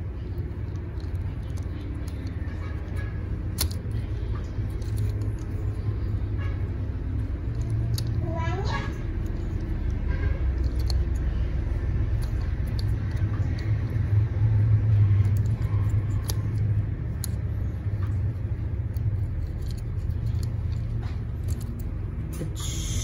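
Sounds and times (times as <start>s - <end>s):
plastic pieces clicking together: 0.0s - 6.3s, 7.0s - 22.5s
steady low rumble: 0.0s - 23.0s.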